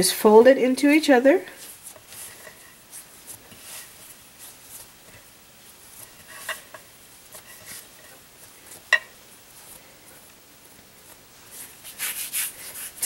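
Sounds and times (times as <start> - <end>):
hands rustling and patting dough: 0.9 - 13.0.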